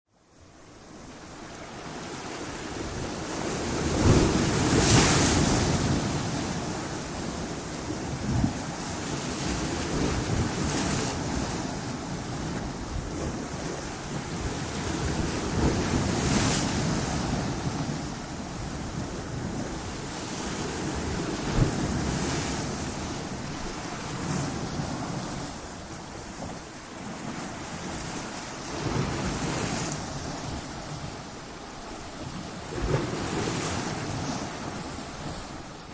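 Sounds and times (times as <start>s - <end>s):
ocean waves breaking: 0.6s - 35.9s.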